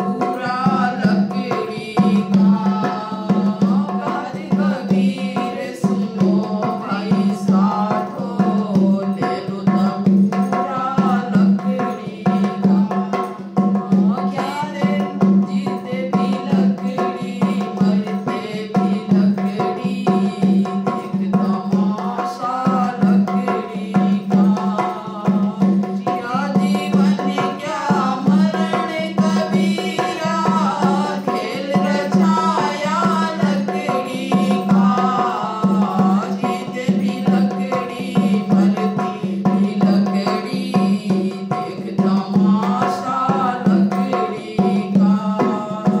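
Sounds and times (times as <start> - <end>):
dholak drum beating: 0.0 - 46.0
woman singing devotional song: 0.0 - 46.0.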